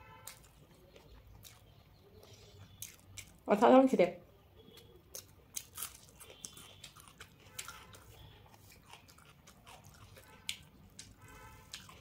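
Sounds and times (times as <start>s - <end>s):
crunchy onion bites: 0.0s - 3.5s, 4.7s - 12.0s
chewing rice: 0.1s - 3.4s, 4.7s - 12.0s.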